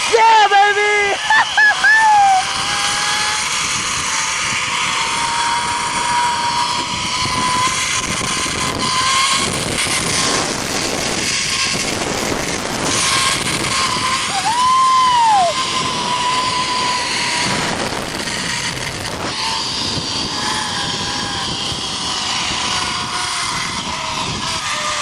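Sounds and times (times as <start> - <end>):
zipline pulleys whining on cable: 0.0 - 25.0
wind rushing over microphone: 1.0 - 25.0
rising and falling tone: 1.2 - 25.0.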